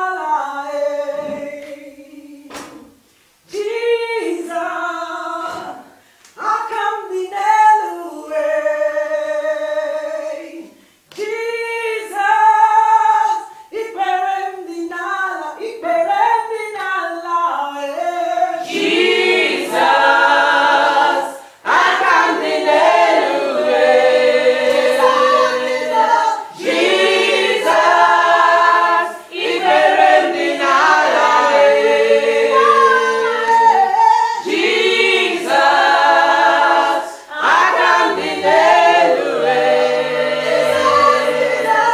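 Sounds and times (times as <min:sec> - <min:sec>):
group singing gospel: 0:00.0 - 0:41.9.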